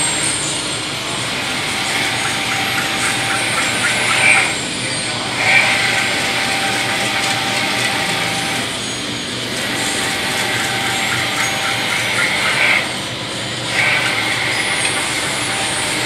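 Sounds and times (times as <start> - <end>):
printer carriage whirring: 0.9 - 16.0.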